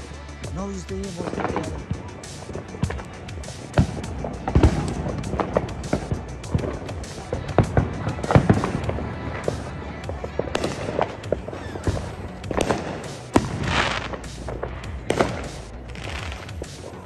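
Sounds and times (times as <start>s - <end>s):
firework rushing hiss: 0.0s - 17.0s
fireworks bangs and crackling pops: 0.0s - 17.0s.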